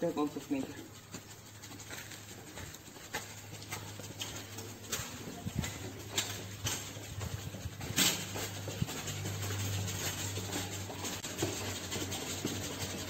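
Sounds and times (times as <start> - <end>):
steady low hum: 0.0 - 13.0
boot footsteps on concrete: 0.7 - 13.0.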